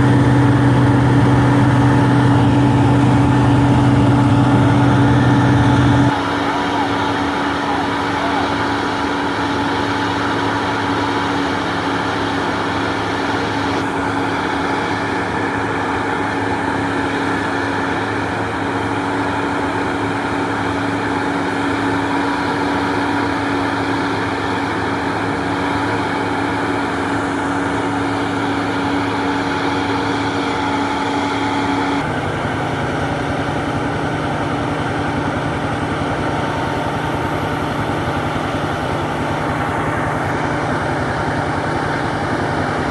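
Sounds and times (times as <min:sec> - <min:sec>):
harvest machinery engine drone: 0:00.0 - 0:42.9.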